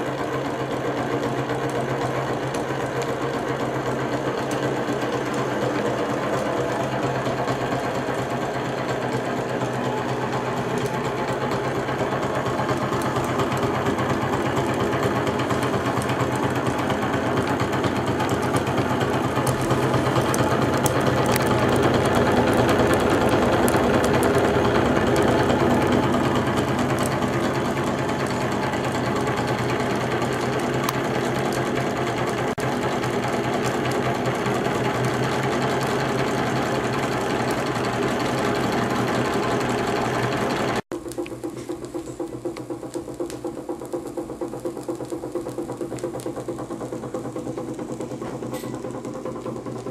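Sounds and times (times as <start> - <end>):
engine mechanical clatter: 0.0 - 49.9.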